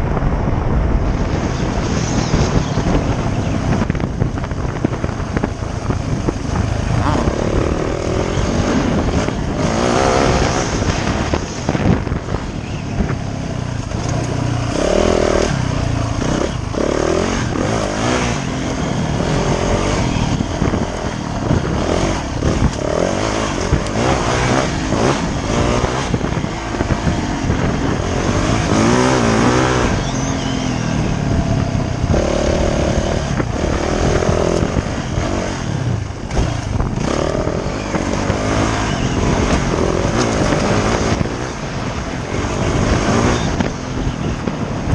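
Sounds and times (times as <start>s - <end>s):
dirt bike engine revving: 4.8s - 12.4s, 13.9s - 44.1s.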